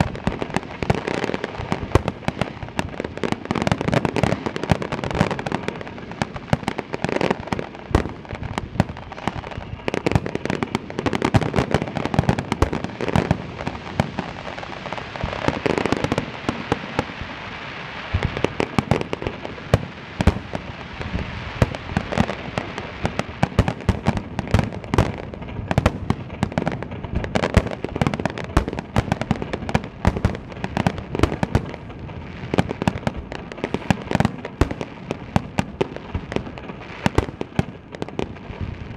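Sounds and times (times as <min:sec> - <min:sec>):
firework bursts booming: 0:00.0 - 0:38.9
firework crackling: 0:00.0 - 0:38.9.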